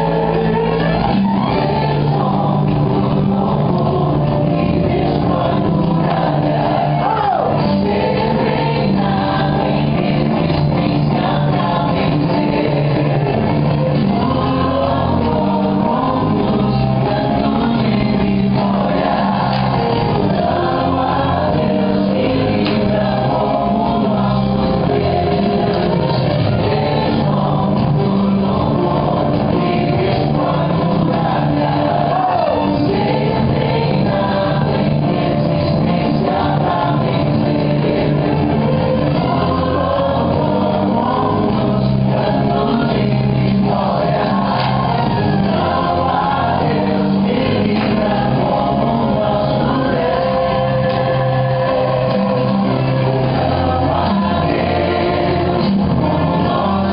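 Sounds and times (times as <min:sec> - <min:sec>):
gospel music with singing: 0:00.0 - 0:56.9.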